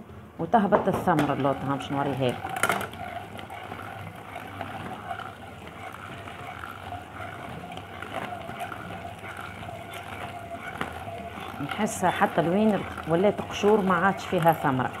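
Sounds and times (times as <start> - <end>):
hand-cranked food mill turning: 1.0 - 15.0.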